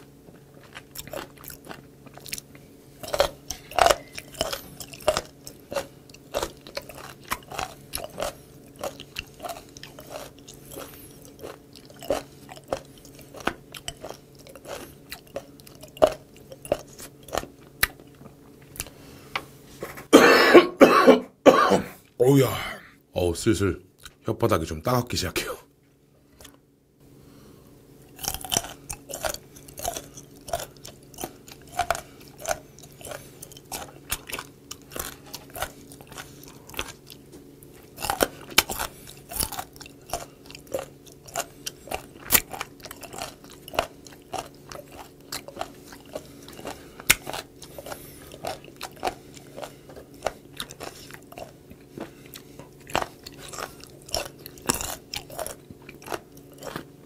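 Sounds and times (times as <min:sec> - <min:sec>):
crisp crunchy chewing: 0:00.3 - 0:19.2, 0:28.1 - 0:57.0.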